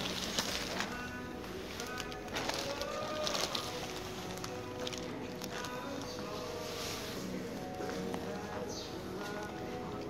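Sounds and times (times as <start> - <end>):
music with gliding tones: 0.0 - 10.0.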